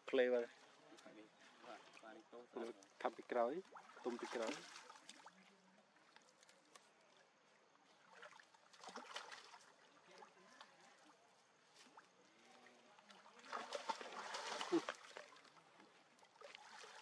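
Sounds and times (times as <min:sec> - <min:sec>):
water splashing and trickling: 0:00.0 - 0:17.0.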